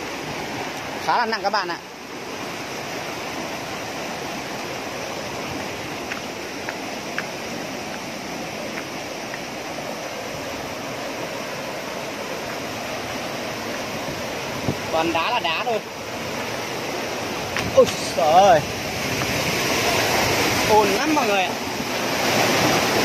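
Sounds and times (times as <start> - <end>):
stream rushing over stones: 0.0 - 23.0.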